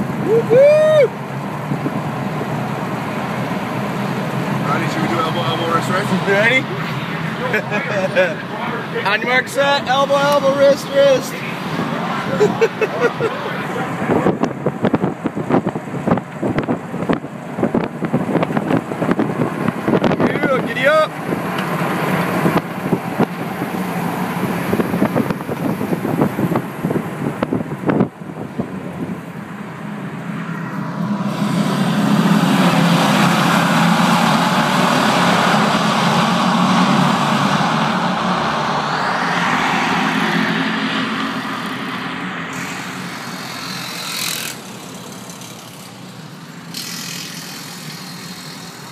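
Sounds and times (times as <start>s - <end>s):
truck engine and road noise: 0.0s - 48.9s.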